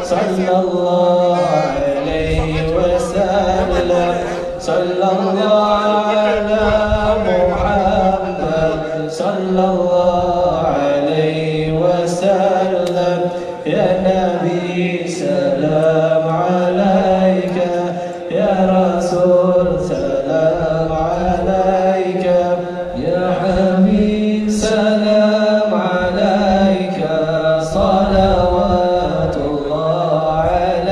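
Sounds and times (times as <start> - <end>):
man chanting: 0.0 - 30.9.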